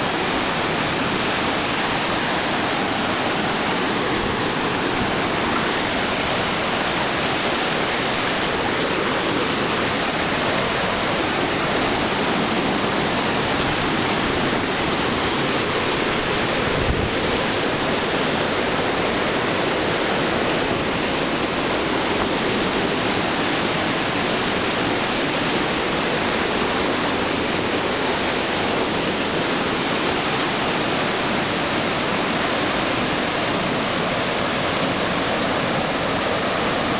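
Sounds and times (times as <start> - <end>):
rushing whitewater: 0.0 - 36.9.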